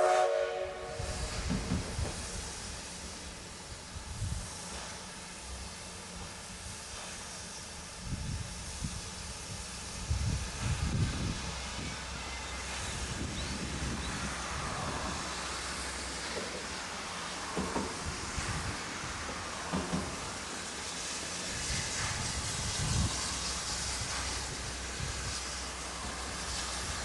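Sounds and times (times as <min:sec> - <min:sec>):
steam hissing: 0:00.0 - 0:27.0.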